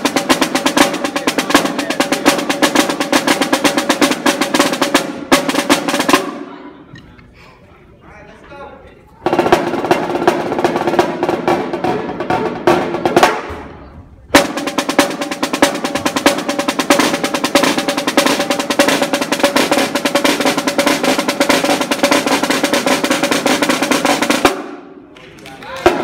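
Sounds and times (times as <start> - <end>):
marching snare drums: 0.0 - 6.5, 9.2 - 25.1.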